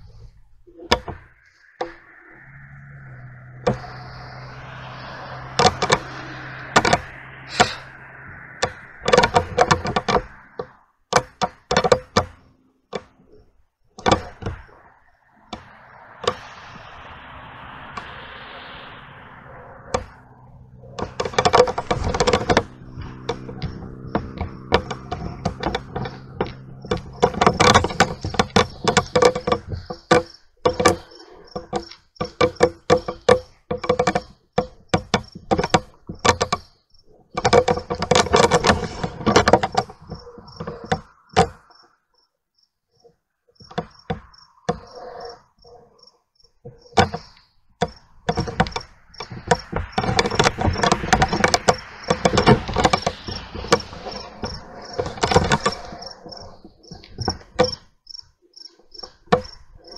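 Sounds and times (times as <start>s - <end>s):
loud irregular clicking: 0.0s - 42.0s, 43.0s - 59.9s
crickets chirping: 1.0s - 10.9s, 14.0s - 59.9s.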